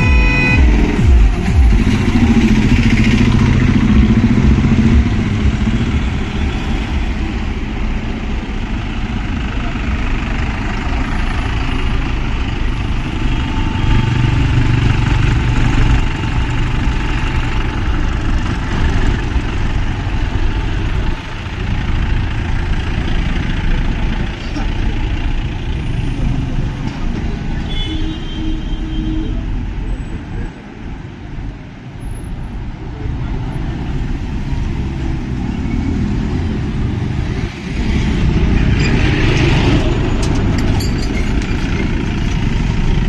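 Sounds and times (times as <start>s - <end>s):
vehicle engines idling: 0.0s - 43.0s.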